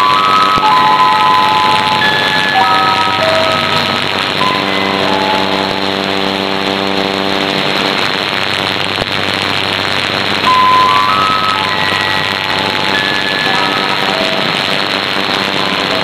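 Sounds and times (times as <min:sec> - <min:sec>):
electronic melody tones: 0:00.0 - 0:08.0, 0:10.4 - 0:16.0
radio band noise and hiss: 0:00.0 - 0:16.0.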